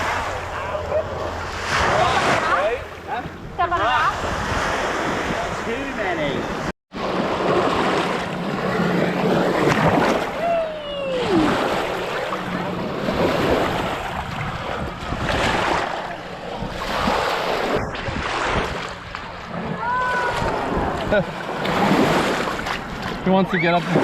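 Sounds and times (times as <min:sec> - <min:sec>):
rushing wind and water: 0:00.0 - 0:24.0.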